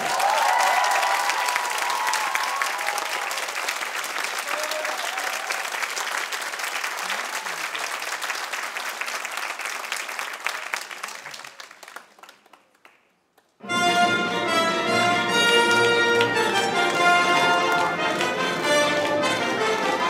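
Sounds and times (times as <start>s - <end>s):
audience applauding: 0.0s - 13.6s, 15.6s - 20.0s.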